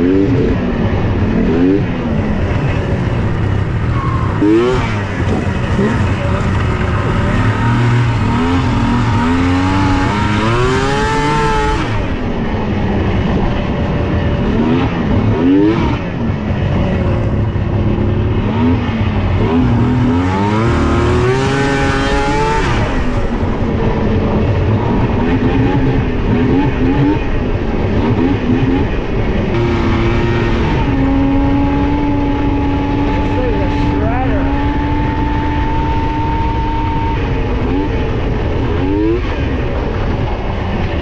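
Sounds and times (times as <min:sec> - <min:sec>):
snowmobile engine revving: 0:00.0 - 0:41.0.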